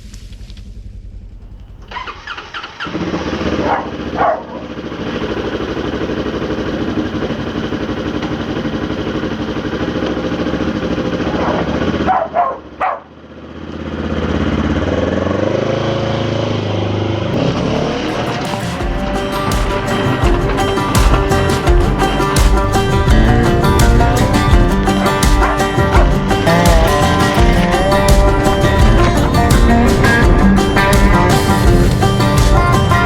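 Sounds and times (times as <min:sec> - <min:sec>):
small petrol engine running: 0:00.1 - 0:33.0.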